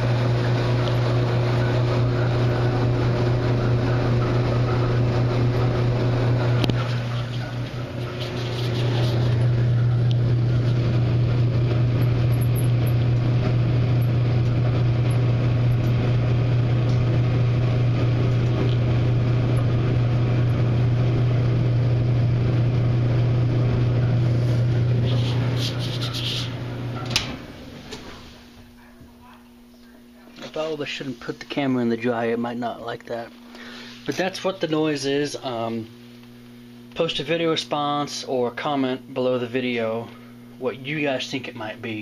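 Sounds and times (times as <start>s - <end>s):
dryer humming: 0.0s - 42.0s.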